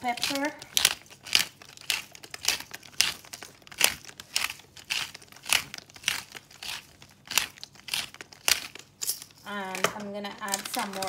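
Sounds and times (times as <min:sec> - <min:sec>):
pepper grinder crunching: 0:00.0 - 0:11.0.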